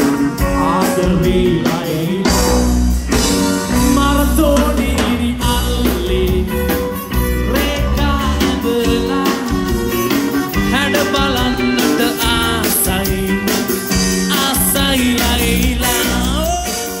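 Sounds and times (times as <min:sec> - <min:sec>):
male singing: 0:00.0 - 0:10.0, 0:10.6 - 0:17.0
band with drums bass guitar: 0:00.0 - 0:17.0.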